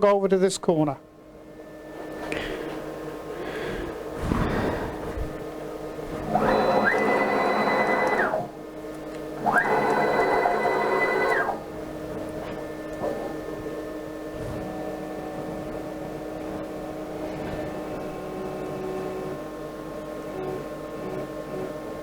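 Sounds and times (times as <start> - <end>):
stepper motors whining: 1.2 - 21.8.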